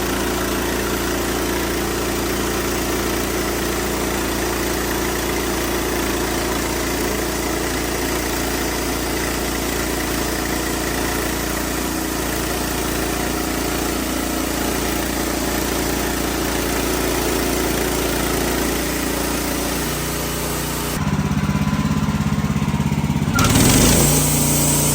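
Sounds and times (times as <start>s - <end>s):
sawmill engine running: 0.0s - 24.9s.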